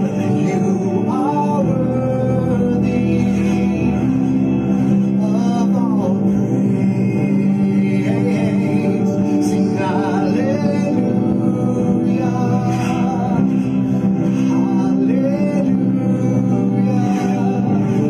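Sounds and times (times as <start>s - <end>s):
man singing a worship song: 0.0s - 18.0s
sustained accompaniment chords: 0.0s - 18.0s.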